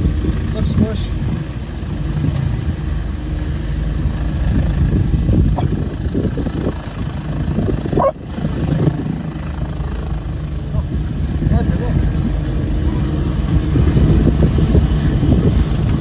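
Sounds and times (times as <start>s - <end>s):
helicopter engine and rotor rumble: 0.0s - 16.0s.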